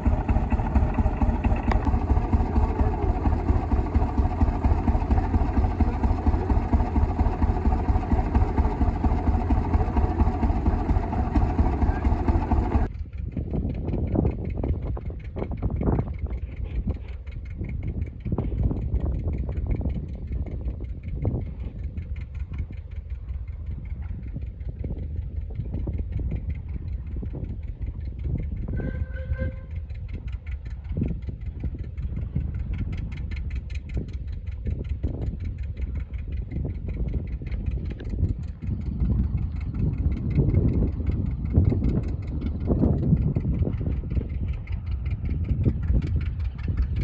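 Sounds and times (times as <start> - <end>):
engine running: 0.0 - 47.0.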